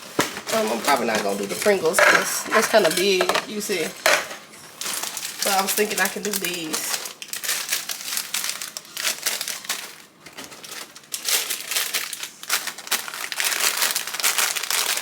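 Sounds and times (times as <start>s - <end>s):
plastic snack bags crinkling: 0.0s - 15.0s.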